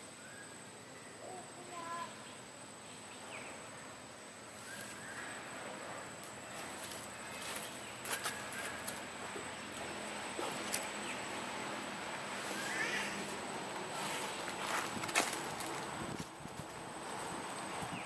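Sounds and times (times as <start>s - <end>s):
insect drone: 0.0s - 18.0s
low hiss: 0.0s - 18.0s.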